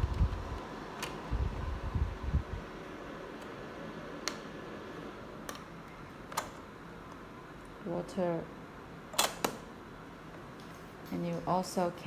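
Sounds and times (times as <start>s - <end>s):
mini fan running with hum: 0.0s - 12.0s.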